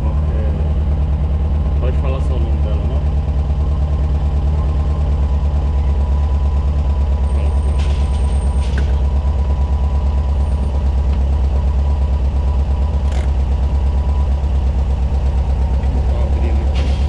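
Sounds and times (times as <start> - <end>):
car engine pulsing exhaust: 0.0 - 17.0.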